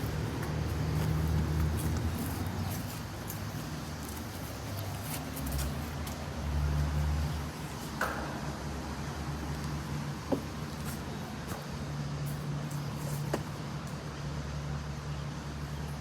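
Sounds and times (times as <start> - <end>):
air conditioner units humming: 0.0 - 16.0.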